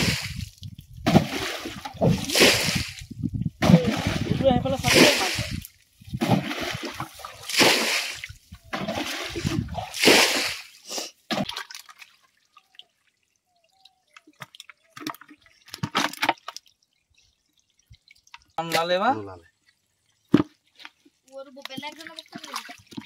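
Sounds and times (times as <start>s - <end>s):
water splashing: 0.0s - 23.0s
water dripping and trickling: 0.1s - 23.0s.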